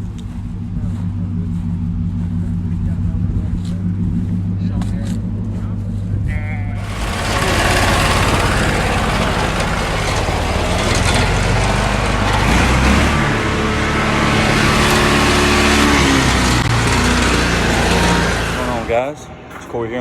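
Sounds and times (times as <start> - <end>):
engine running loudly: 0.0 - 19.7.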